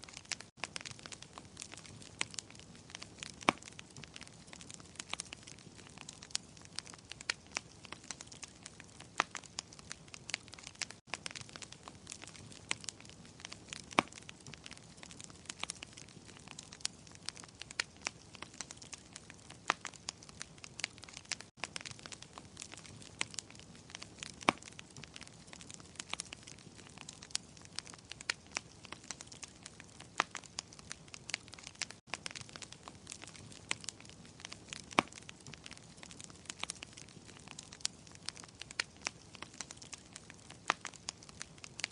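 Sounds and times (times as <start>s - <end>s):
sharp pops and snaps: 0.0s - 41.9s
wood fire crackling: 0.0s - 41.9s.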